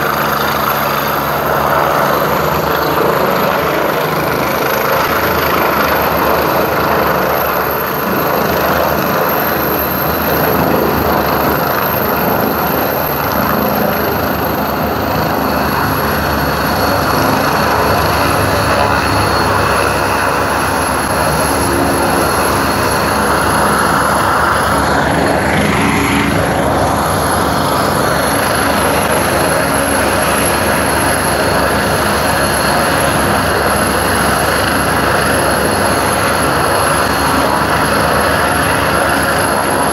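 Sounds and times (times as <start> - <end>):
helicopter rotor and engines: 0.0 - 39.9
high whine: 0.0 - 39.9.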